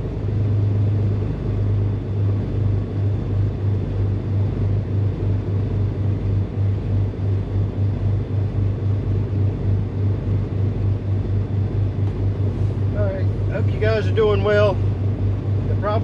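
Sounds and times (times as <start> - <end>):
twin piston aircraft engines droning: 0.0 - 16.0.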